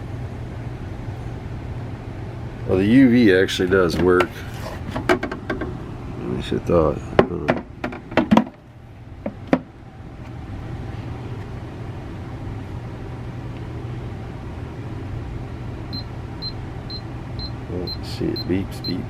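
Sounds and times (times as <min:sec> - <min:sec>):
humidifier humming: 0:00.0 - 0:19.0.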